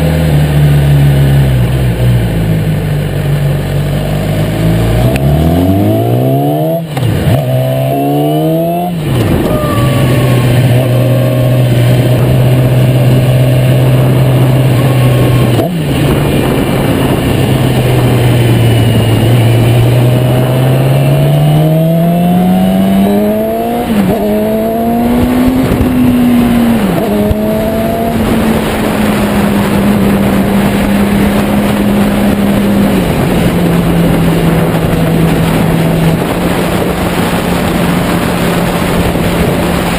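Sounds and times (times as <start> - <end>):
motorcycle engine accelerating: 0.0 - 39.9
wind buffeting microphone: 4.8 - 39.9.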